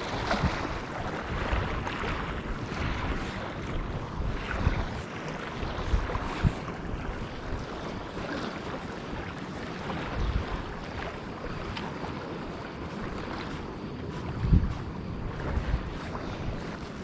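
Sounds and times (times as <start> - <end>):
harbour water washing: 0.0 - 17.0
wind buffeting the microphone: 0.0 - 17.0.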